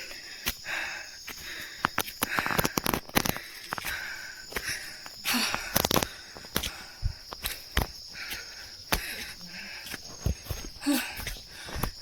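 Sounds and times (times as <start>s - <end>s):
footsteps crunching on forest path: 0.0s - 12.0s
hard breathing: 0.0s - 12.0s
high insect drone: 0.0s - 12.0s.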